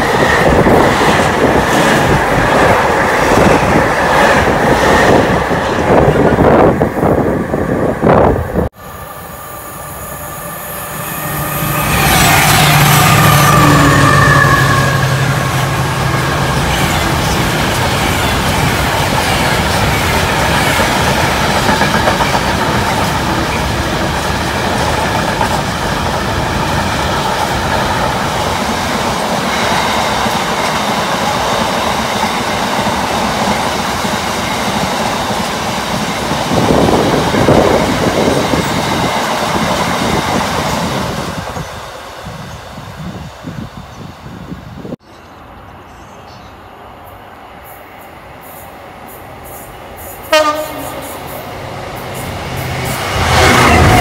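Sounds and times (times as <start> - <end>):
freight train rumbling and rattling: 0.0 - 8.8, 9.9 - 45.0, 47.1 - 54.0
low hum of locomotive: 0.0 - 54.0.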